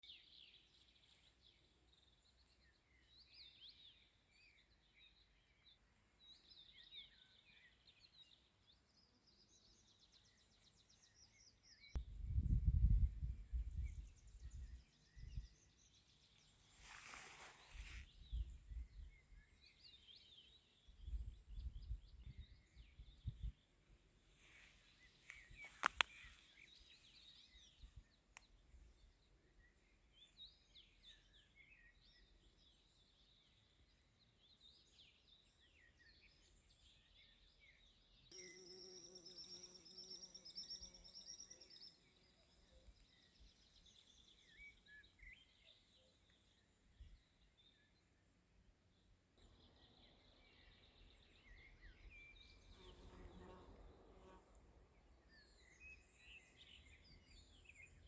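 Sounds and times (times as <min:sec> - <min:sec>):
faint birdsong: 0:00.0 - 0:58.0.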